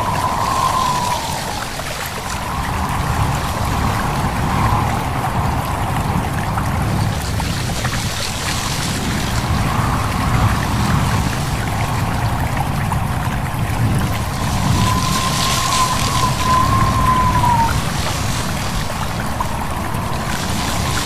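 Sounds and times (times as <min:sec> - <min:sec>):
stream babbling and trickling: 0:00.0 - 0:21.0
wavering whistle of wind: 0:00.0 - 0:21.0
wind through leaves: 0:00.0 - 0:21.0.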